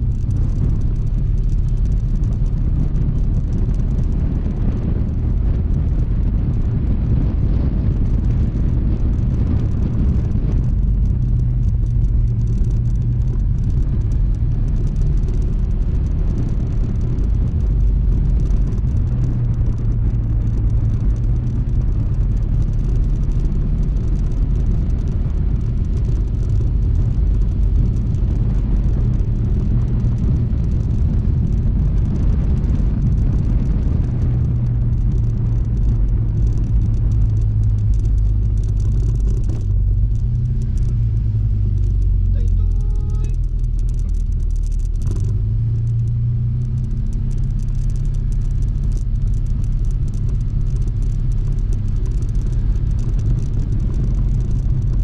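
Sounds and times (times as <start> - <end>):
road rumble: 0.0 - 55.0
scooter engine running: 0.0 - 55.0
wind: 0.0 - 55.0.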